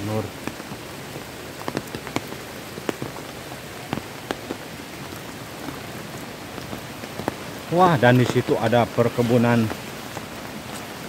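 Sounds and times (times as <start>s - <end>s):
rain falling on water: 0.0s - 11.0s.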